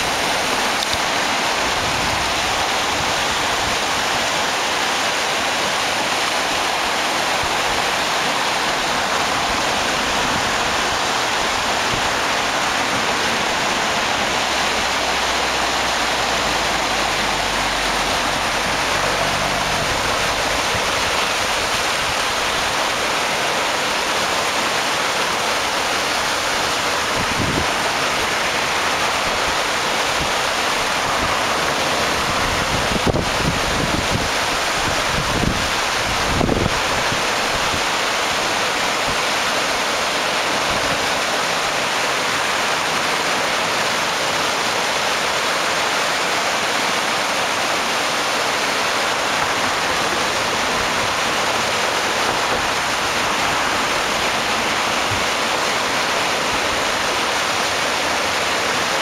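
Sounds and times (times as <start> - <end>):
rushing turbulent floodwater: 0.0 - 59.0.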